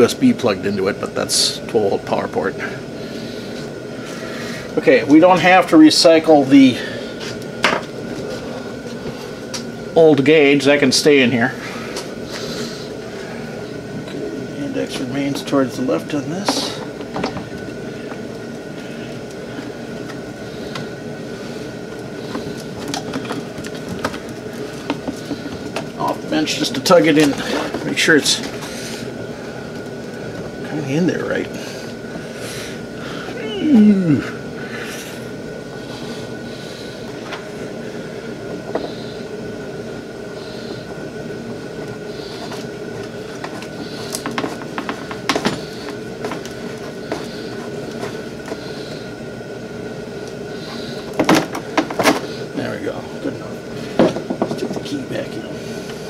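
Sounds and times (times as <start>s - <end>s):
steady background hum: 0.0s - 56.0s.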